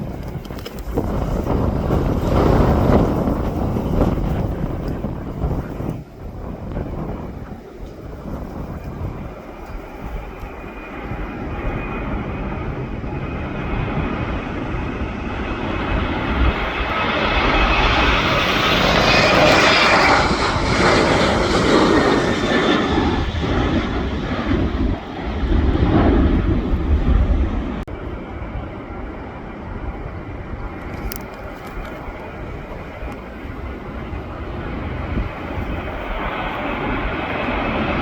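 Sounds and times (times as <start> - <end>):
airliner engines passing: 0.0 - 38.0
wind buffeting microphone: 0.0 - 38.0.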